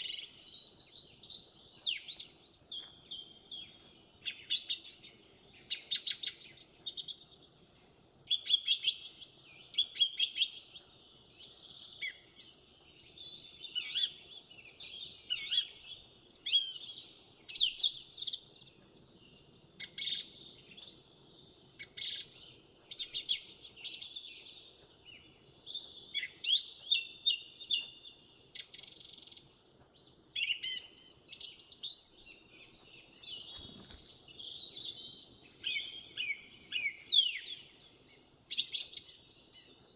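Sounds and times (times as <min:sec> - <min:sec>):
finches singing: 0:00.0 - 0:39.9.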